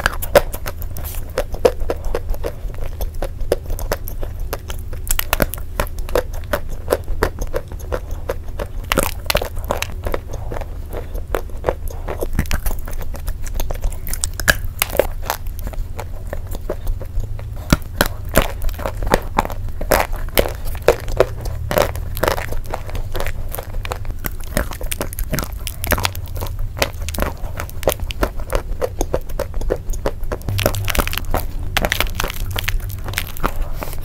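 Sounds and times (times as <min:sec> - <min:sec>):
chewing crunchy clay: 0:00.0 - 0:34.0
low steady hum: 0:00.0 - 0:34.0.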